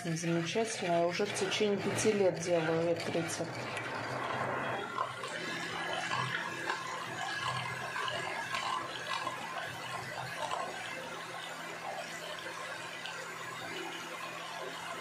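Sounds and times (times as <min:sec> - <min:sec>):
beaters whisking liquid: 0:00.0 - 0:15.0
electric hand mixer motor hum: 0:00.0 - 0:15.0.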